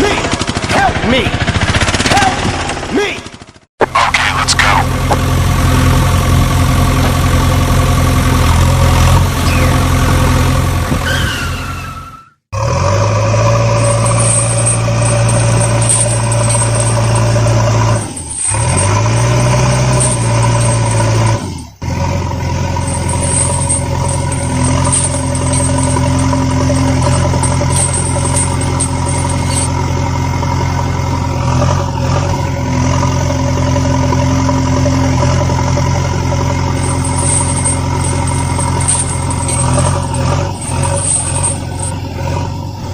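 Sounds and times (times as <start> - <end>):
vehicle engine idling: 0.0 - 12.1, 12.8 - 42.9.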